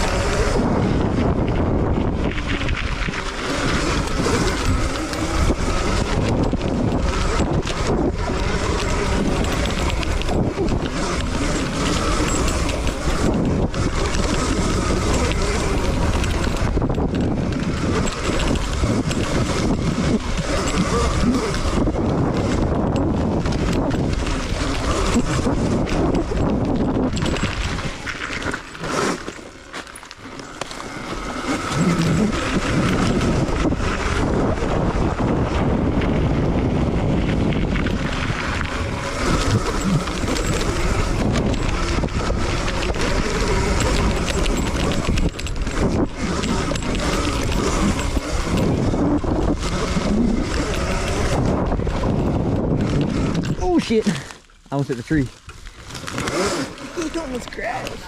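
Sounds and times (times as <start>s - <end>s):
dirt bike motor: 0.0s - 58.0s
wind noise on microphone: 0.0s - 58.0s.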